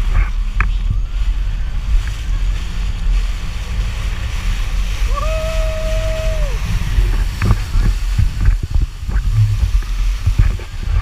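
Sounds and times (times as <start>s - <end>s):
jet ski engine rumble: 0.0s - 11.0s
water rushing: 0.0s - 11.0s
wind buffeting microphone: 0.0s - 11.0s.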